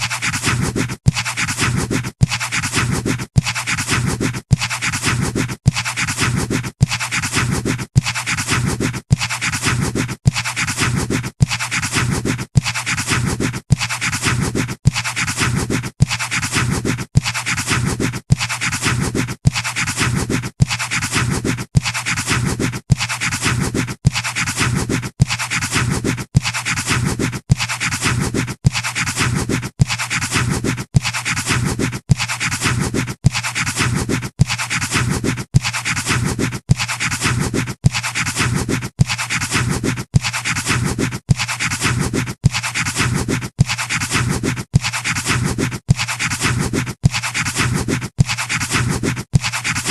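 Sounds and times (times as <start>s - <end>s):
pencil scratching on paper: 0.0s - 49.9s.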